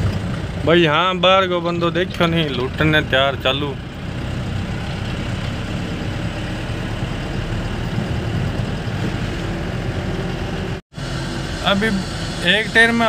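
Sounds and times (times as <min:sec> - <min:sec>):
vehicle cab engine drone: 0:00.0 - 0:13.0.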